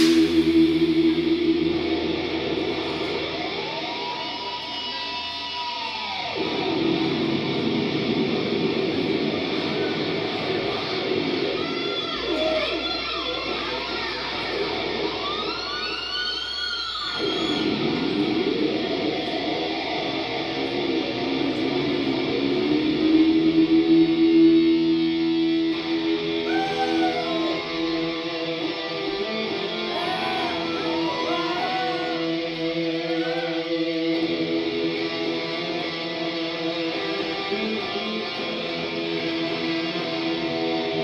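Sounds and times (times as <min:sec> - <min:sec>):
electric guitars with pitch bends: 0:00.0 - 0:41.0.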